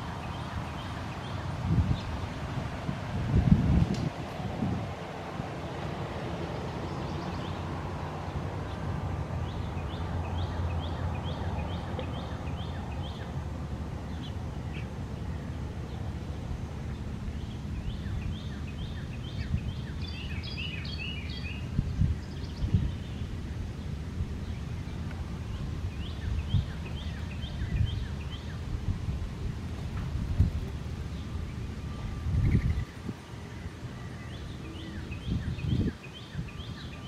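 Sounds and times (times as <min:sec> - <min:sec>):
birds chirping: 0:00.0 - 0:02.6, 0:05.5 - 0:28.9, 0:29.5 - 0:37.0
low outdoor rumble: 0:00.0 - 0:36.0.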